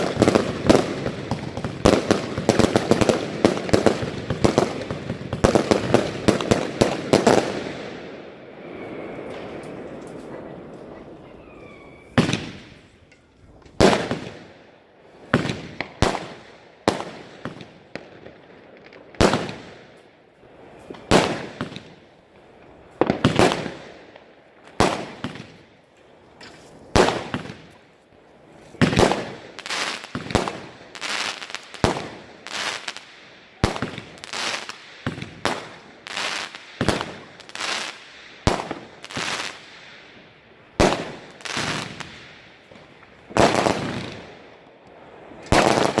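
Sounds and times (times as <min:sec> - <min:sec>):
firework bangs: 0:00.0 - 0:11.3, 0:12.0 - 0:13.0, 0:13.7 - 0:14.5, 0:15.2 - 0:19.9, 0:20.8 - 0:24.1, 0:24.7 - 0:25.6, 0:26.9 - 0:27.7, 0:28.8 - 0:44.7, 0:45.4 - 0:46.0.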